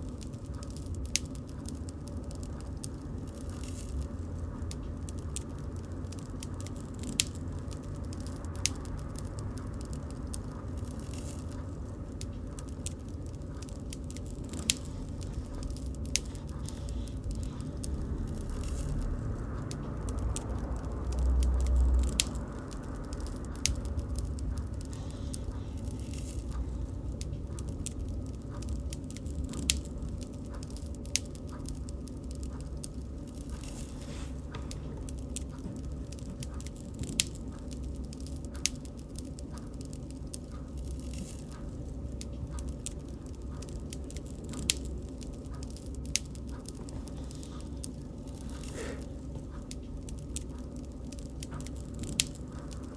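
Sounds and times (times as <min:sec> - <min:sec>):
bonfire crackling and popping: 0:00.0 - 0:52.9
low rumble of flames: 0:00.0 - 0:52.9.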